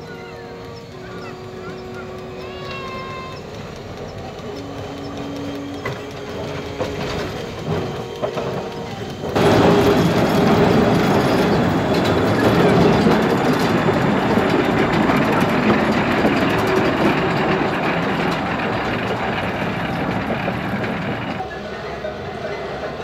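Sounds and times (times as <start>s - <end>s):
rack locomotive rumbling: 0.0s - 23.0s.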